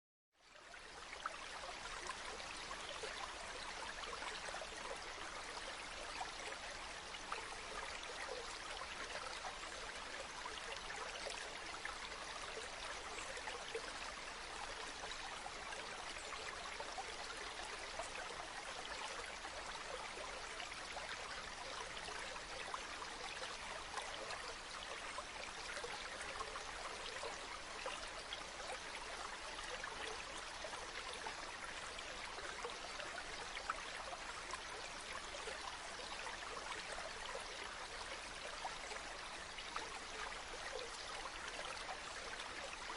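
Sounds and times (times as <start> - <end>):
stream water running: 0.4 - 42.9.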